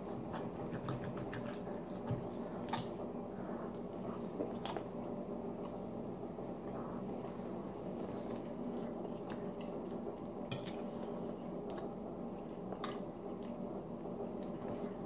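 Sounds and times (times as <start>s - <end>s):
chewing: 0.0s - 15.0s
steady low hum: 0.0s - 15.0s.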